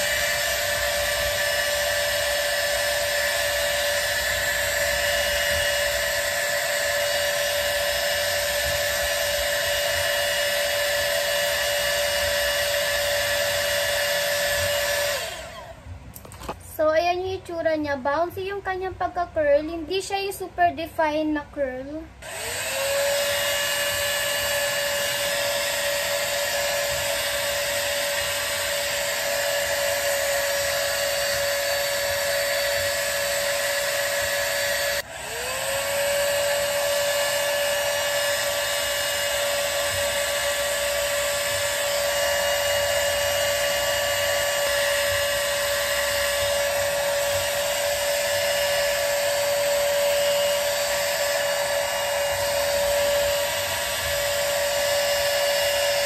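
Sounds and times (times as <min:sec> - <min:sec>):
hot-air styler motor whine: 0:00.0 - 0:16.6, 0:22.2 - 0:56.0.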